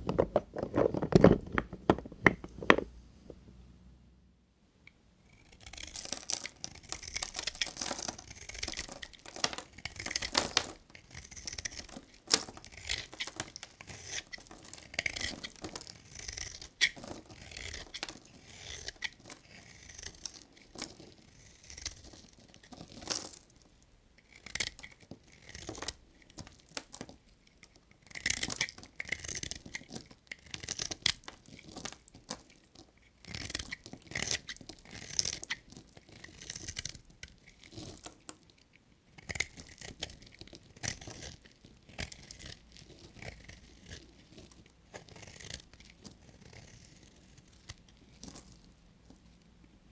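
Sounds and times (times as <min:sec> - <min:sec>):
knife cutting dry soap: 0:05.2 - 0:38.3, 0:39.1 - 0:49.9.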